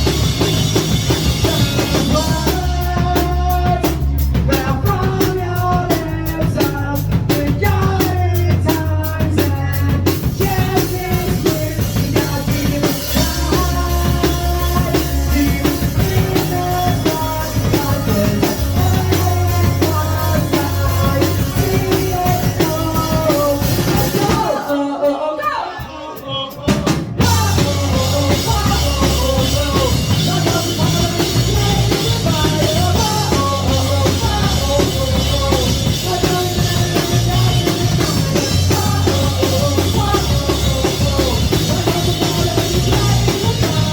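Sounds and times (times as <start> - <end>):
live rock band playing: 0.0 - 25.1, 25.8 - 43.9
person singing: 0.0 - 43.9.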